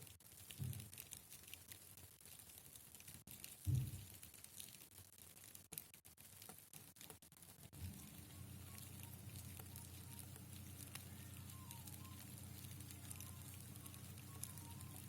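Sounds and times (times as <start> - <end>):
silkworms chewing leaves: 0.0 - 15.0.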